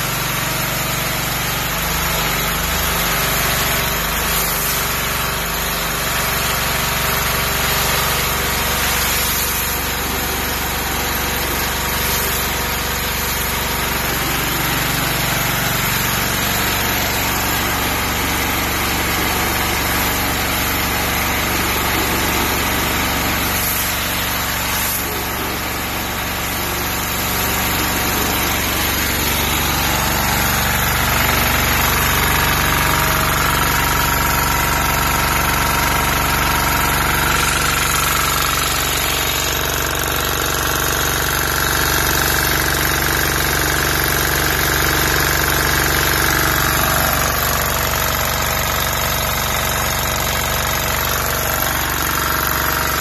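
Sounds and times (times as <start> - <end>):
high-pressure water spray hissing: 0.0 - 53.0
small diesel engine running: 0.0 - 53.0.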